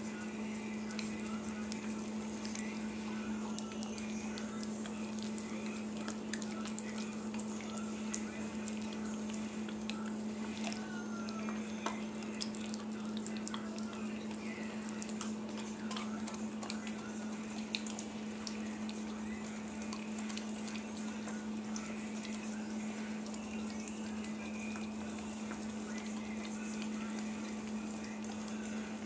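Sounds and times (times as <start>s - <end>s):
steady low hum: 0.0s - 29.0s
dog licking and smacking: 0.1s - 29.0s.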